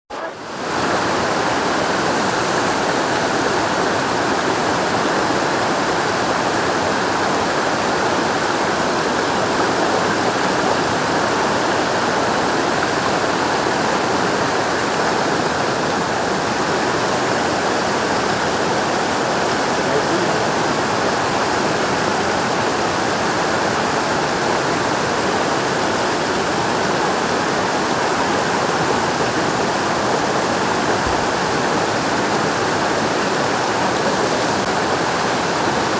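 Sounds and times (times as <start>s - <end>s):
river rapids rushing over boulders: 0.1s - 35.9s.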